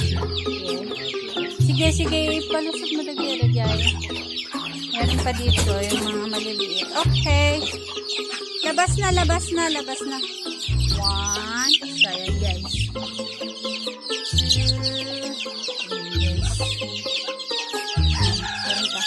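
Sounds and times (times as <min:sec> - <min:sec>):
background music with bass beat: 0:00.0 - 0:18.9
chickens clucking: 0:00.0 - 0:19.0.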